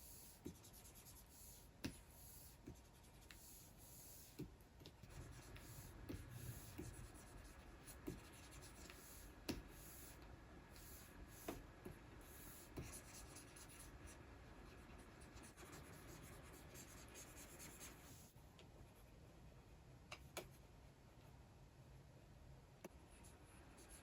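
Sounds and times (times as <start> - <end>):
stylus scratching on a screen: 0.0 - 18.4, 23.1 - 24.0.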